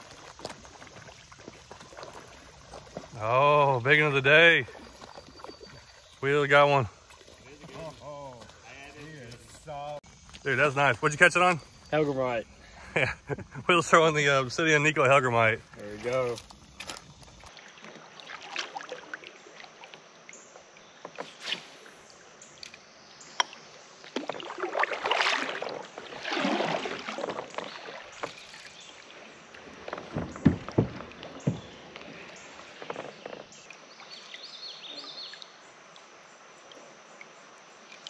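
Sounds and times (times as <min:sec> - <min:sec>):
paddle splashing through water: 0:00.0 - 0:22.7, 0:23.4 - 0:36.0.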